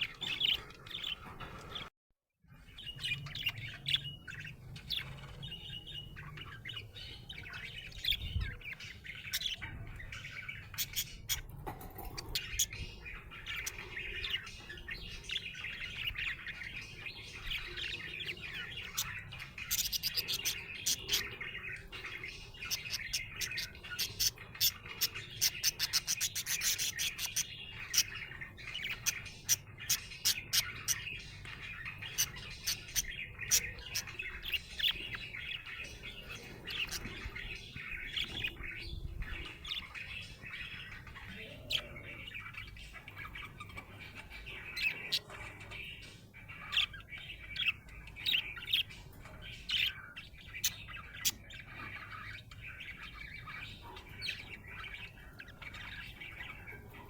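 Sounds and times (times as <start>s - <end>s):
budgerigar chirping and warbling: 0.0s - 1.8s, 2.8s - 57.0s.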